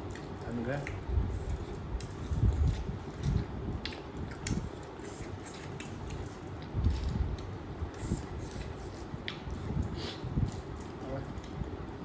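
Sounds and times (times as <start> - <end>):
person chewing: 0.0 - 11.6.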